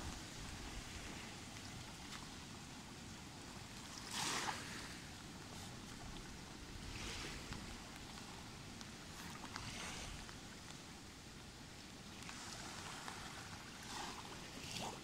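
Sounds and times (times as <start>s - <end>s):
small waves lapping on shore: 0.0s - 15.0s.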